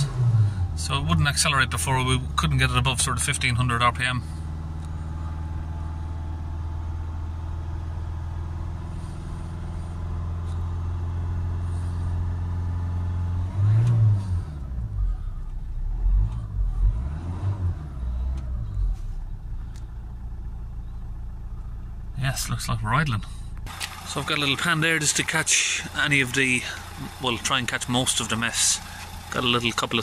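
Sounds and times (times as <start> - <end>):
diesel engine revving unevenly: 0.0 - 21.6, 23.6 - 30.0.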